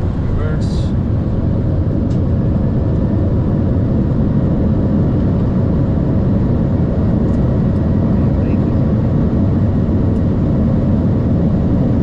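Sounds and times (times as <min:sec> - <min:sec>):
jet engines in reverse thrust: 0:00.0 - 0:12.0
runway rumble: 0:00.0 - 0:12.0.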